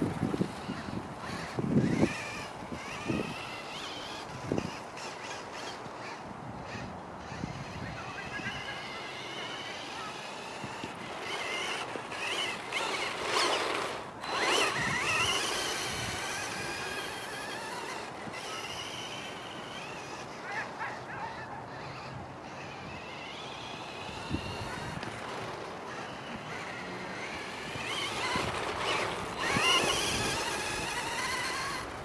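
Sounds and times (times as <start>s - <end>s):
rc car motor whine: 0.0s - 32.0s.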